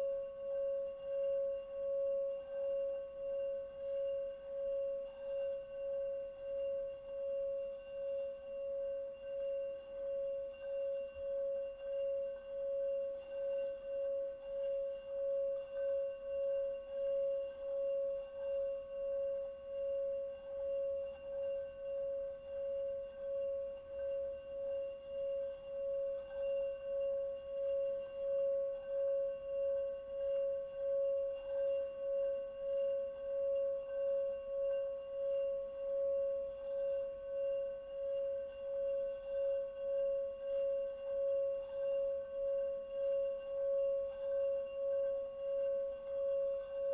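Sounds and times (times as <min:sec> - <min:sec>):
singing bowl ringing: 0:00.0 - 0:46.9.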